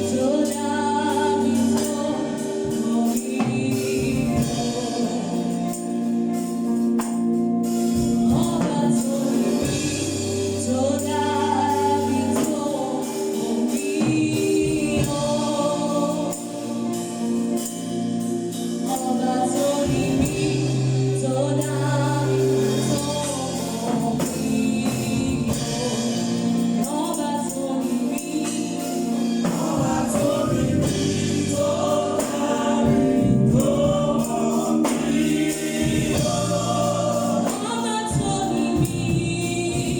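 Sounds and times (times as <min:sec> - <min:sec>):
gospel choir singing: 0:00.0 - 0:39.9
instrumental backing with bass: 0:00.0 - 0:39.9
tambourine: 0:00.0 - 0:39.9.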